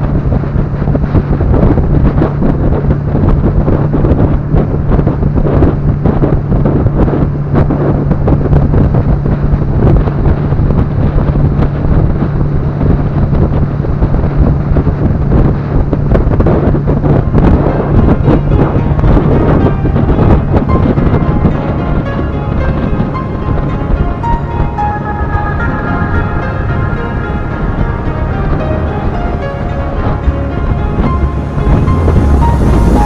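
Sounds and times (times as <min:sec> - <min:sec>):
boat engine running: 0:00.0 - 0:33.0
wind buffeting microphone: 0:00.0 - 0:33.0.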